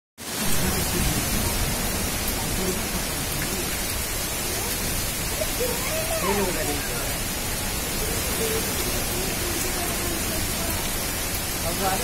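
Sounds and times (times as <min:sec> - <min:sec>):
storm wind and rain rushing: 0:00.2 - 0:12.0.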